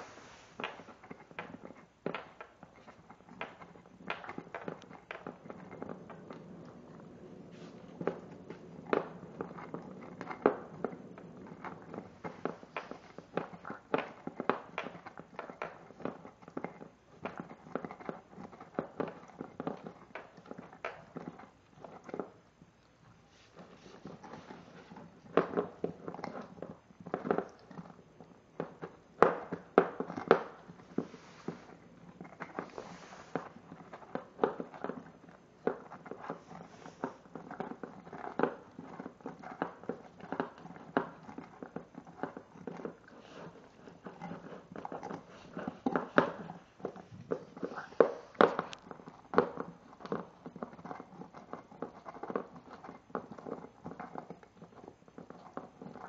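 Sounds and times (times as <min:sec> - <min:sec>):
puppy gnawing a bone: 0:00.0 - 0:56.0.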